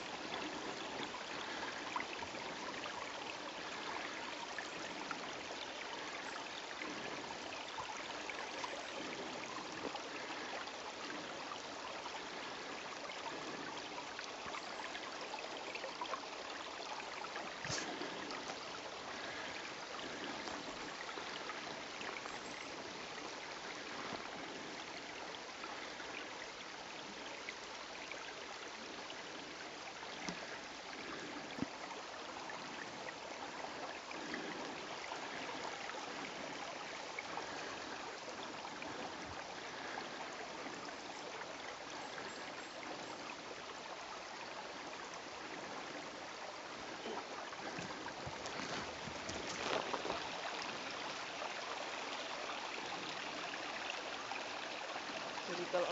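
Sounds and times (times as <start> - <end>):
brook trickling: 0.0 - 55.9.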